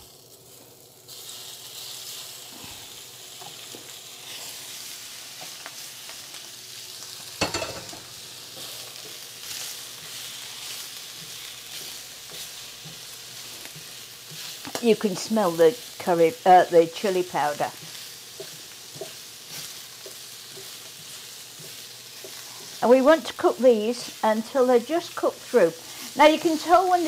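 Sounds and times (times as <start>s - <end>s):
shrimp sizzling in oil: 0.0s - 27.0s.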